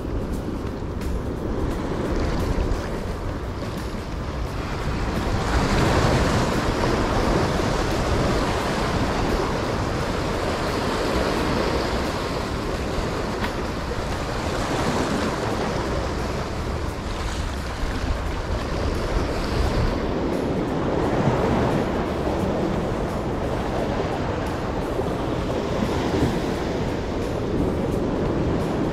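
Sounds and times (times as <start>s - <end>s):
waves washing over rocks: 0.0s - 28.9s
wind on microphone: 0.0s - 28.9s.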